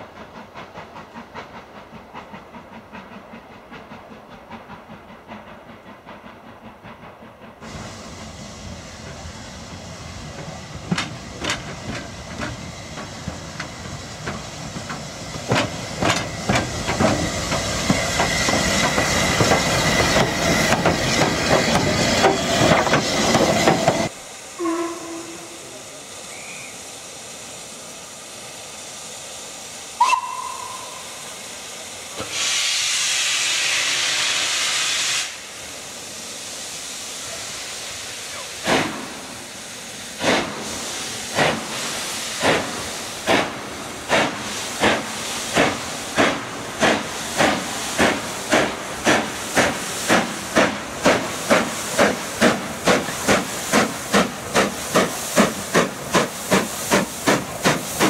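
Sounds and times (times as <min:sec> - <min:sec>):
loud hiss of steam: 0:00.0 - 0:58.0
steam locomotive exhaust beats: 0:00.0 - 0:58.0.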